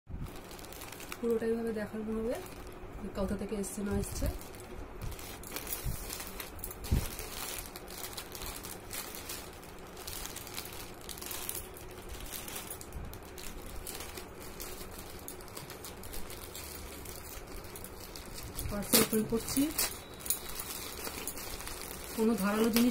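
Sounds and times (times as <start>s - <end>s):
packaging rustling and crinkling: 0.2s - 22.9s.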